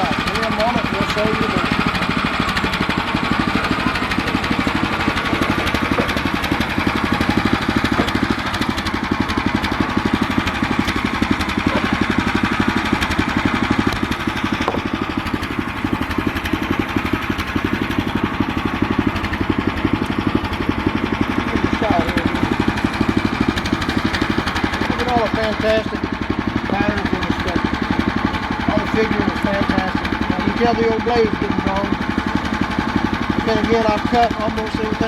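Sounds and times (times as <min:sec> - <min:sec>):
gasoline engine running steadily: 0:00.0 - 0:35.0.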